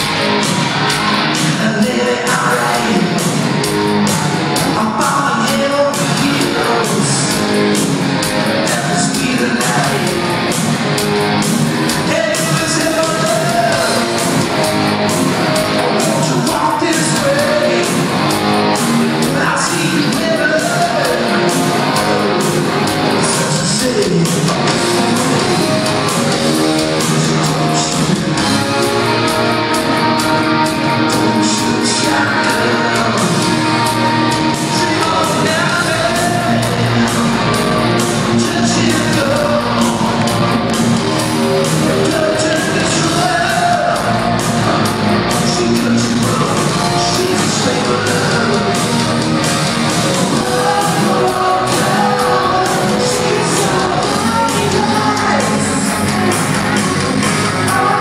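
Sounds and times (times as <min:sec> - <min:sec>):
lead singer singing: 0:00.0 - 0:10.6, 0:11.9 - 0:58.0
distorted electric guitars: 0:00.0 - 0:58.0
steady drumbeat: 0:00.0 - 0:58.0.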